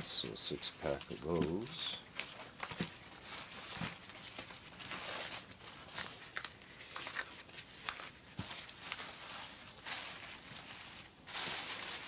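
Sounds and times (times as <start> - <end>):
nylon pouches rustling: 0.1 - 12.0.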